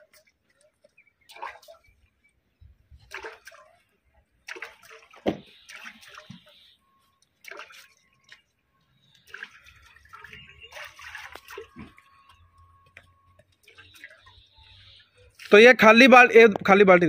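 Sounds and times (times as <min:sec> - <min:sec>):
water splashing and sloshing: 0:00.0 - 0:16.7.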